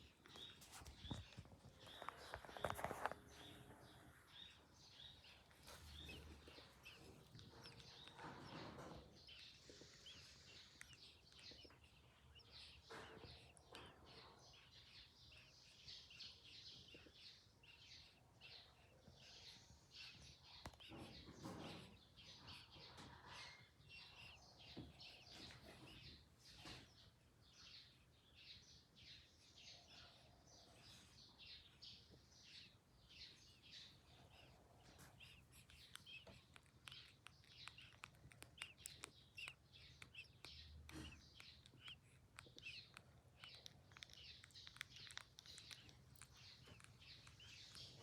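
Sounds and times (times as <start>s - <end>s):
faint bird chirping: 0.0s - 48.0s.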